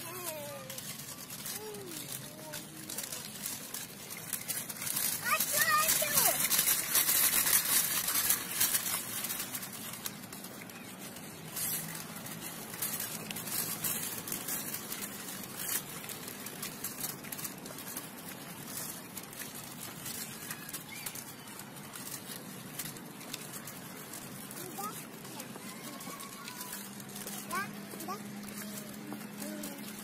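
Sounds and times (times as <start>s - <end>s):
tricycle wheels rattling on bricks: 0.0s - 30.0s.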